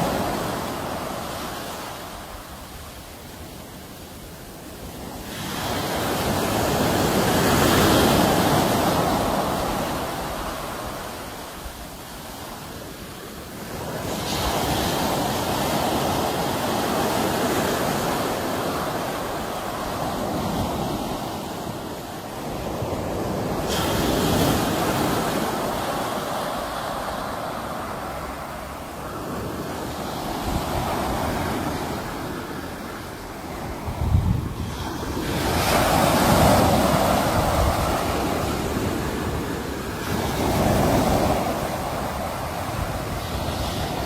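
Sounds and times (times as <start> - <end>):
sea waves washing ashore: 0.0 - 44.0.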